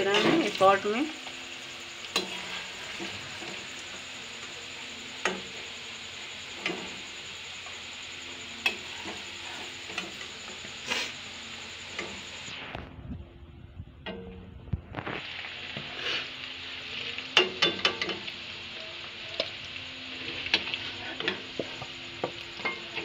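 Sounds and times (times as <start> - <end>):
cheese frying in hot oil: 0.0 - 12.9, 14.0 - 23.0.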